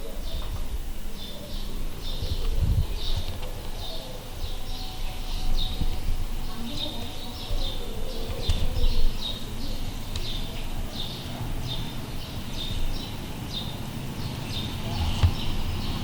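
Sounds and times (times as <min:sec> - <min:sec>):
low rumbling noise: 0:00.0 - 0:16.0
small bird chirping: 0:00.0 - 0:16.0.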